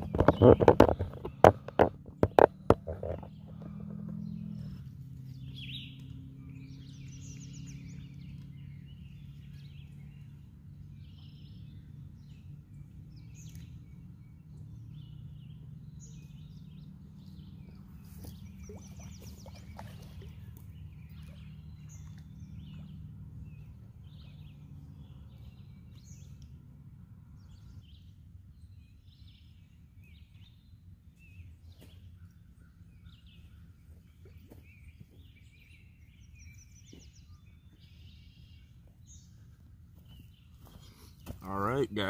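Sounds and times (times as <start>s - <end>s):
birds singing: 0.0s - 42.0s.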